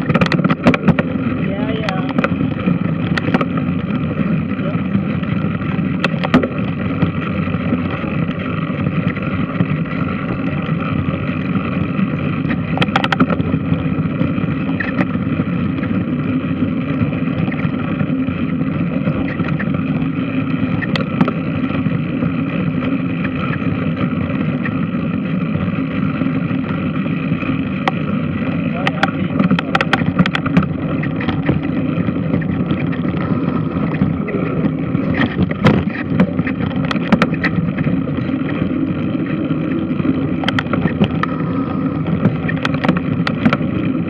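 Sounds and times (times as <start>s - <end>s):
washing machine drone: 0.0s - 44.0s.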